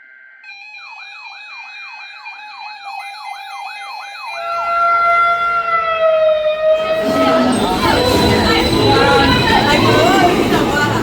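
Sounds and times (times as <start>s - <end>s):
electronic siren yelping: 0.4s - 10.5s.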